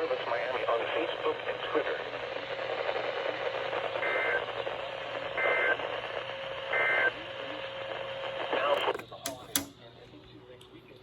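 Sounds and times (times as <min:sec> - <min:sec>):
radio hiss: 0:00.0 - 0:11.0.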